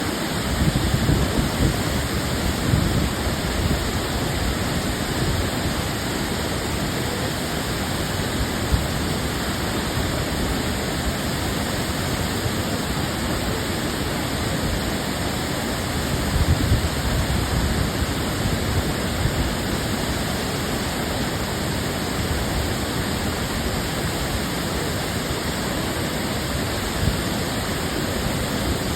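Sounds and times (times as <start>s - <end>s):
waterfall roaring: 0.0s - 28.9s.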